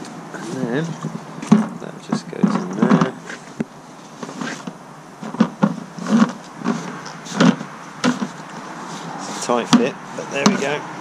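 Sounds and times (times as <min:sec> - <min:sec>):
hose scraping against plastic: 0:00.4 - 0:10.8.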